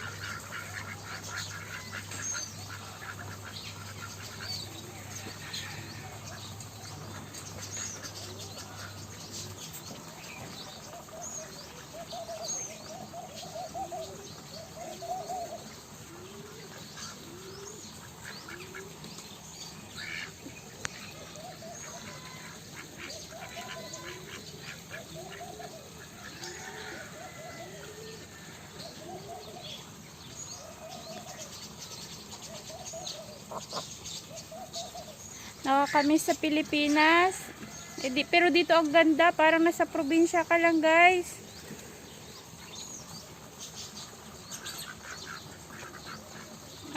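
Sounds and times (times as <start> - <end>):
ducks calling: 0.0 - 31.4, 32.2 - 42.7, 44.0 - 46.9
small birds chirping: 0.0 - 46.9.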